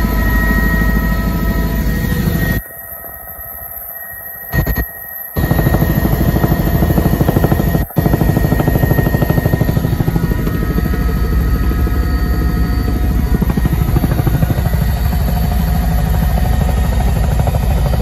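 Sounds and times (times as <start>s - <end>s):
helicopter rotor chop: 0.0s - 2.6s, 5.4s - 18.0s
helicopter whine: 0.0s - 18.0s.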